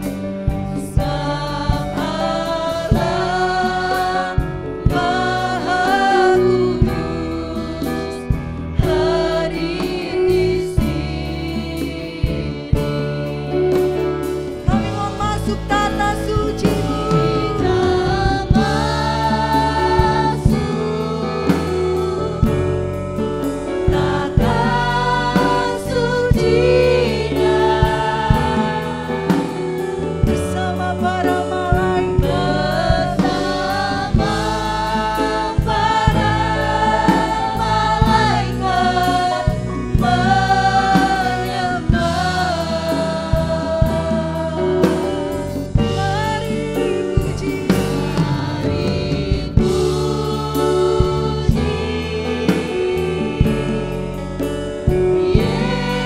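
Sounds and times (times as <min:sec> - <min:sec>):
band with drums: 0:00.0 - 0:56.0
group of singers: 0:00.0 - 0:56.0.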